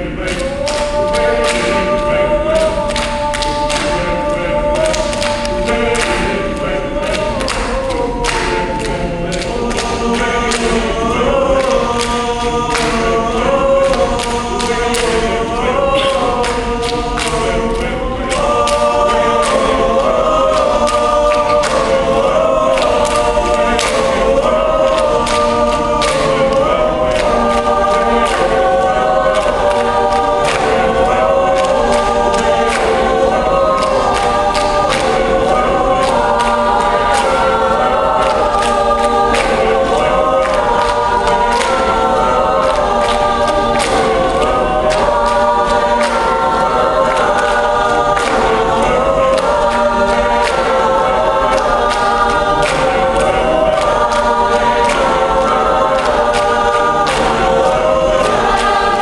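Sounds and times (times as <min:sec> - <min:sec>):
hand-clapping: 0:00.0 - 0:59.0
mixed choir singing a cappella: 0:00.0 - 0:59.0.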